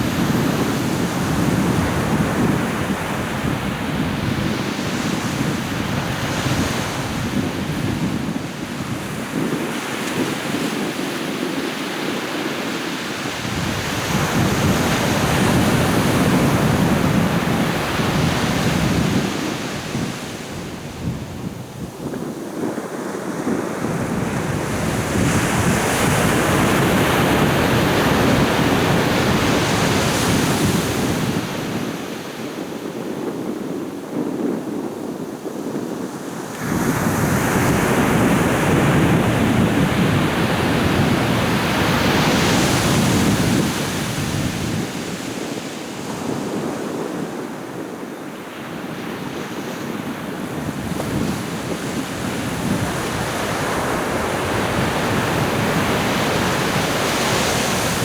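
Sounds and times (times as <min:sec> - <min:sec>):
sea waves breaking on beach: 0:00.0 - 0:58.0
wind on microphone: 0:00.0 - 0:58.0.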